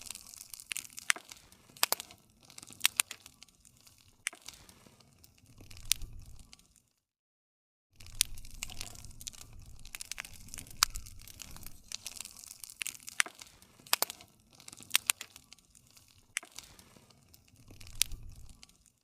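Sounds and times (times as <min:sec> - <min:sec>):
low rumble of flame: 0:00.0 - 0:06.9, 0:08.0 - 0:19.0
wood fire crackling: 0:00.0 - 0:07.0, 0:08.0 - 0:19.0.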